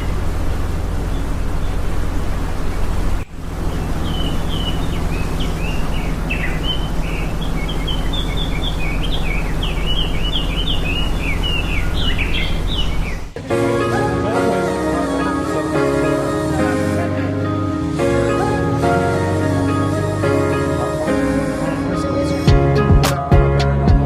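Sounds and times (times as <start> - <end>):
birds chirping: 0.0 - 23.4
low background rumble: 0.0 - 24.0.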